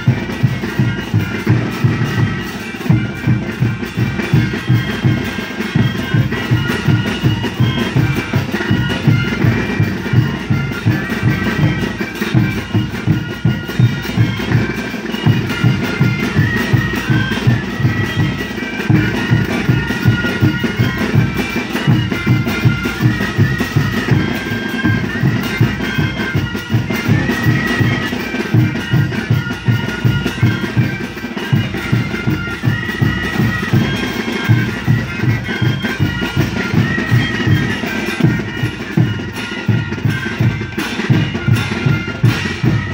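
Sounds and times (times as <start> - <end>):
cymbals: 0.0 - 42.9
snare drums: 0.0 - 42.9
wooden flutes playing melody: 0.0 - 42.9.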